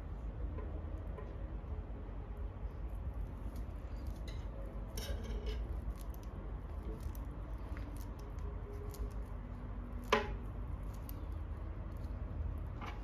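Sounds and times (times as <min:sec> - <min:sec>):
low steady rumble: 0:00.0 - 0:13.0
fingers rustling wire strands: 0:02.4 - 0:13.0.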